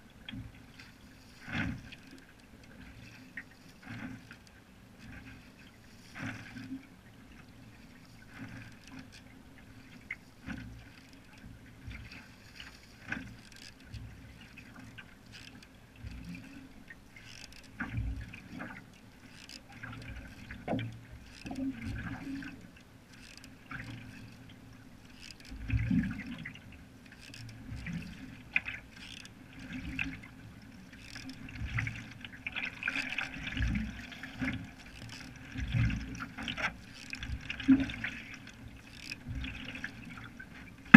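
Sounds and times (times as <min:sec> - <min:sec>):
paddle pulling through water: 0:00.0 - 0:40.9.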